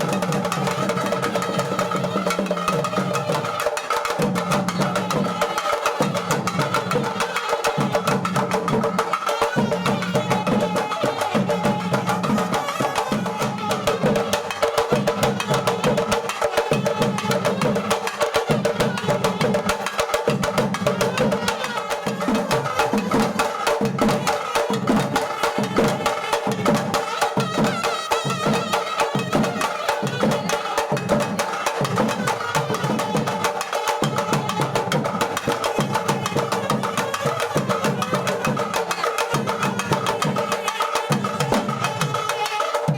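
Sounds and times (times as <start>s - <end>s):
fast busy percussion: 0.0s - 42.9s
instrumental music: 0.0s - 42.9s.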